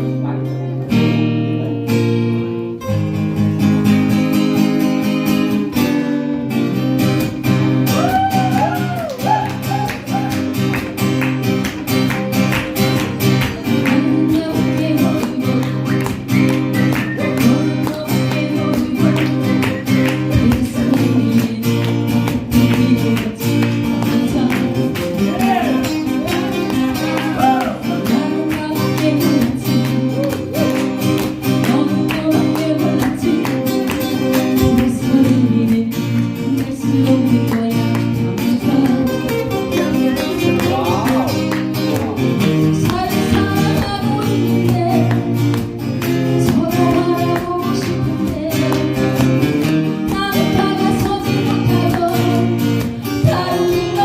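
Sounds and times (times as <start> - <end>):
acoustic guitars strumming: 0.0 - 54.0.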